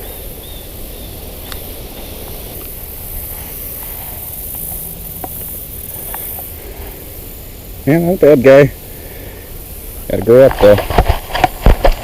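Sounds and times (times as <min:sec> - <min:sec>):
high hiss: 0:00.0 - 0:12.0.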